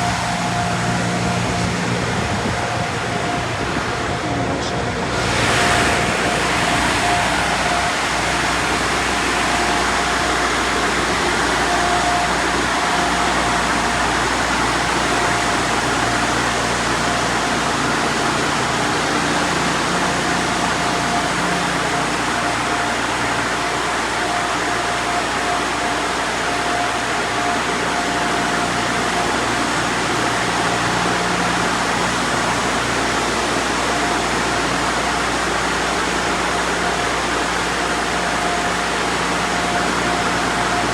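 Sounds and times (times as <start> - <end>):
car wash blowers rushing air: 0.0 - 40.9.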